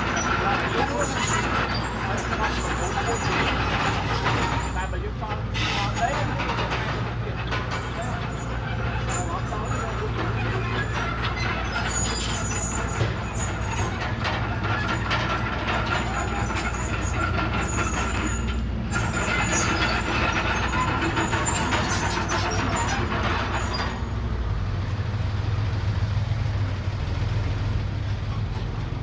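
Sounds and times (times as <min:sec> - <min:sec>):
metallic clatter and squeaks: 0:00.0 - 0:25.0, 0:28.1 - 0:29.0
diesel engine running: 0:00.0 - 0:29.0.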